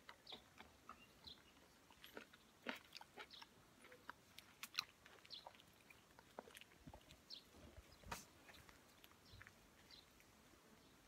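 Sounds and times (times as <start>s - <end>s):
person chewing fruit: 0.0s - 10.4s.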